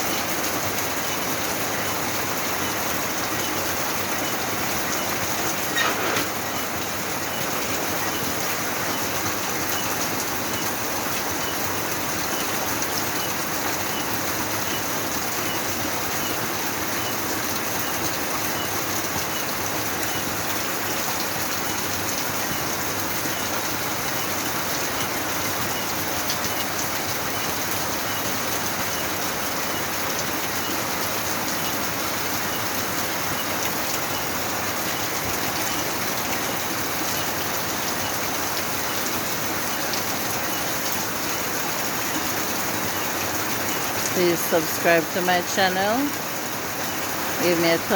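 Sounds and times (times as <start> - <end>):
heavy rain hissing: 0.2 - 47.9.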